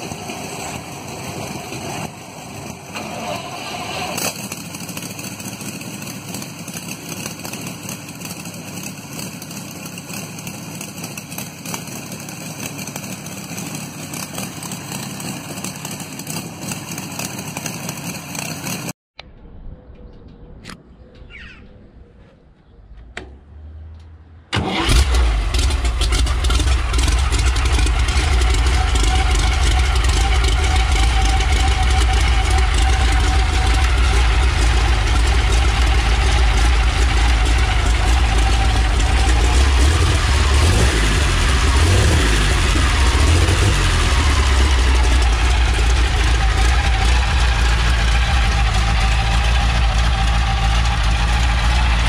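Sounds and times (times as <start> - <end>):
engine running loud: 0.0 - 18.9, 23.5 - 52.0
engine cranking: 2.8 - 18.9, 24.5 - 52.0.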